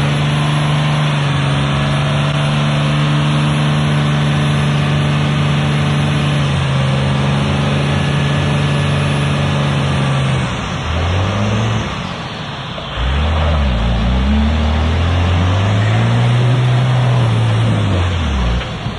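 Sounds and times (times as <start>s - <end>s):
diesel truck engine revving: 0.0s - 18.9s.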